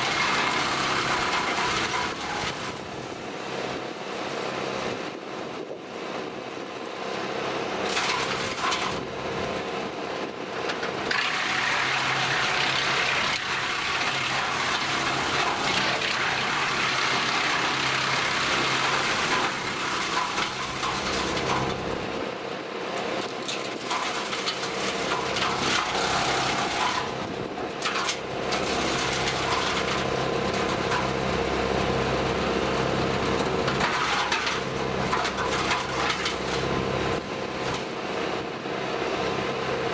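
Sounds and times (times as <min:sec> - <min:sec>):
tractor engine hum: 0:00.0 - 0:39.9
wood chipper crunching branches: 0:00.0 - 0:39.9.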